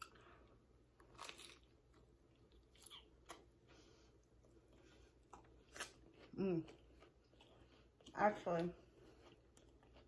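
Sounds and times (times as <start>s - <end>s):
chewing food: 0.0s - 10.0s.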